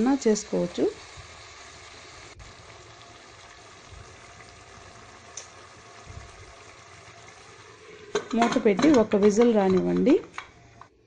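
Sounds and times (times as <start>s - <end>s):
curry simmering hiss: 0.0s - 10.9s.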